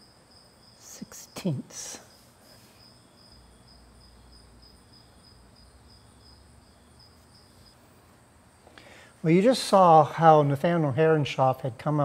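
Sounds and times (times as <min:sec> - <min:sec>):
faint cricket chirping: 0:00.0 - 0:12.0.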